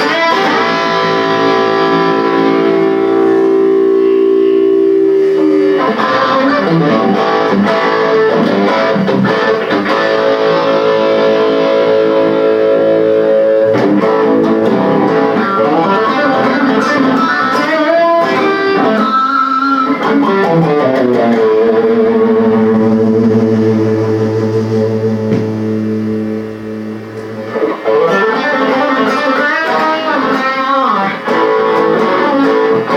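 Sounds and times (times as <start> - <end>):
electric guitar music: 0.0 - 32.9.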